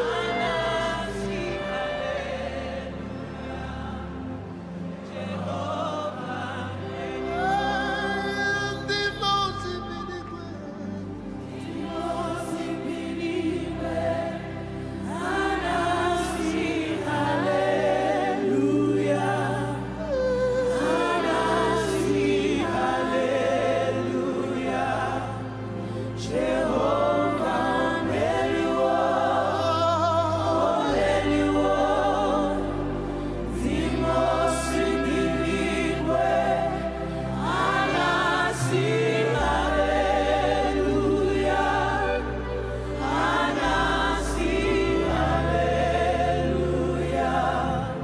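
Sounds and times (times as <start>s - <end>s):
voices singing slow melody: 0.0s - 48.0s.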